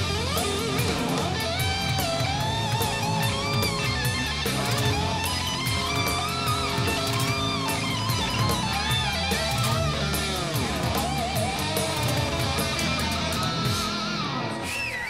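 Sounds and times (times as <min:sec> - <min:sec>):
drum beat: 0:00.0 - 0:14.2
electric guitar lead: 0:00.0 - 0:15.0.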